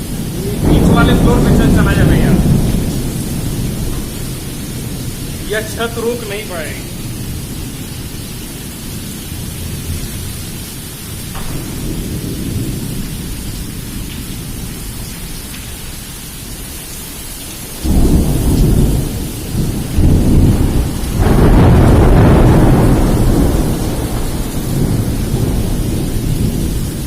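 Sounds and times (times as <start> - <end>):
thunder rumbling: 0.0 - 16.1, 17.7 - 27.0
heavy rain hissing: 0.0 - 27.0.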